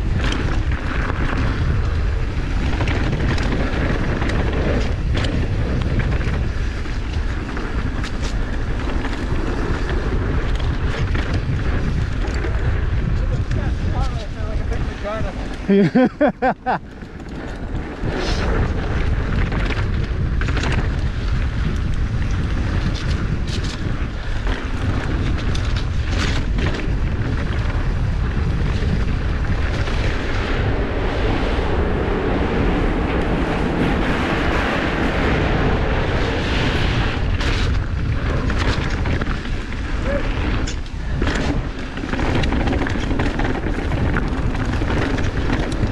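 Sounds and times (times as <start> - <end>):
bike knocks and rattles: 0.0 - 31.3, 33.0 - 45.9
tyres rolling over dirt trail: 0.0 - 45.9
wind buffeting microphone: 0.0 - 45.9.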